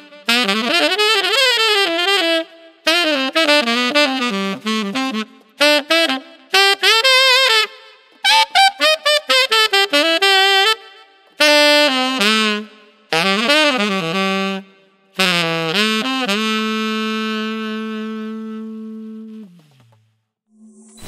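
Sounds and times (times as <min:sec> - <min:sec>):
tenor saxophone melody: 0:00.0 - 0:20.0.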